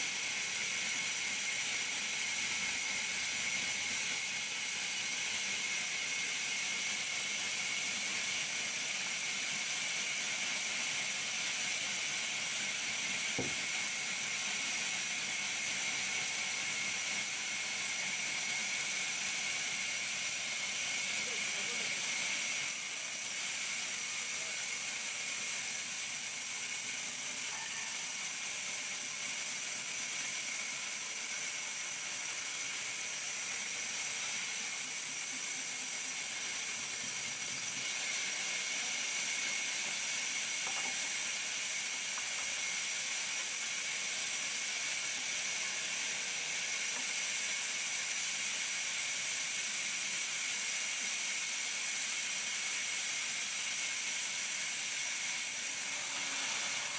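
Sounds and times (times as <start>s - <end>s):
band saw cutting timber: 0.0s - 56.9s.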